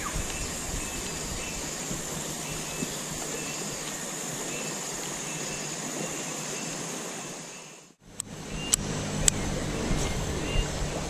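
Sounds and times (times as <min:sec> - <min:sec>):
river rushing over riffles: 0:00.0 - 0:11.0.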